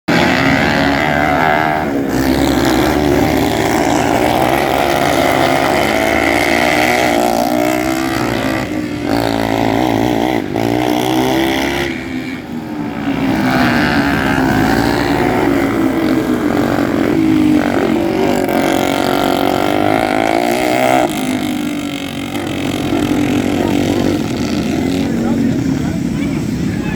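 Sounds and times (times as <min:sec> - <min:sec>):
motorcycle engines racing: 0:00.1 - 0:26.9.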